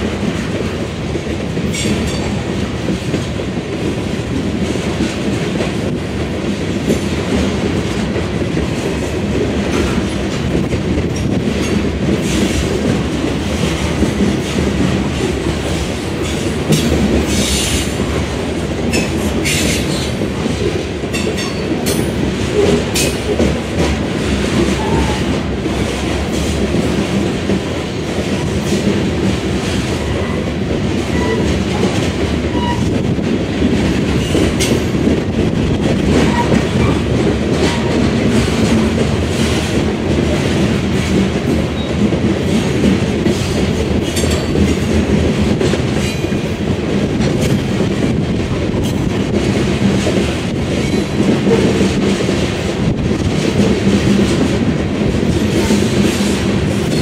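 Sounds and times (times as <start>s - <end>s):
steel wheels rumbling on rail: 0.0s - 57.0s
wheels clacking over rail joints: 0.0s - 57.0s.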